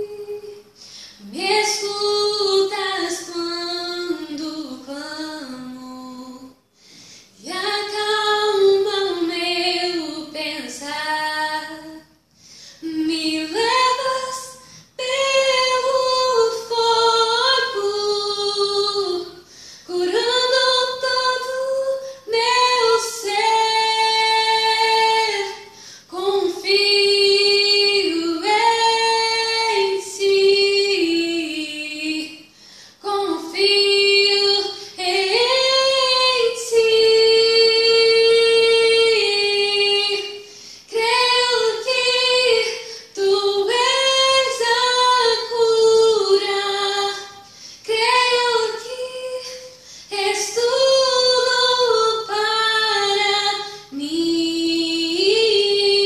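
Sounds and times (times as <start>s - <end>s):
woman singing unaccompanied: 0.0s - 6.6s, 7.4s - 12.2s, 12.8s - 56.0s.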